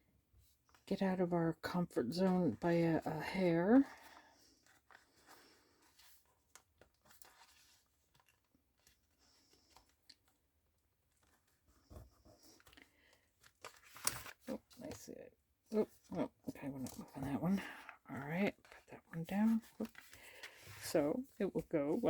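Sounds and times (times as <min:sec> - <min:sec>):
paper and card rustling: 0:02.1 - 0:10.4, 0:11.1 - 0:15.0, 0:15.8 - 0:22.0.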